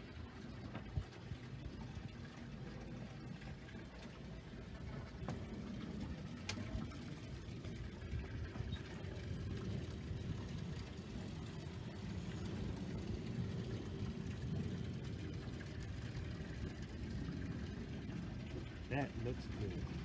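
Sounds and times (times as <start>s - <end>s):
faint steady hum: 0.0s - 20.0s
low mechanical rumble: 0.0s - 20.0s.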